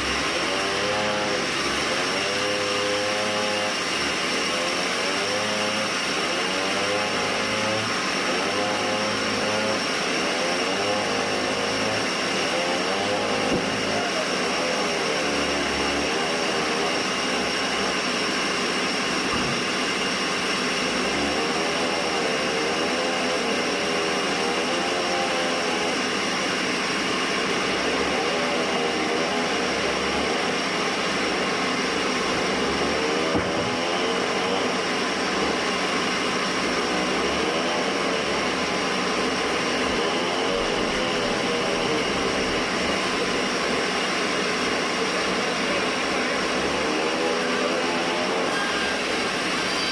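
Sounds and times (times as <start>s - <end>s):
band saw machine whine: 0.0s - 49.9s.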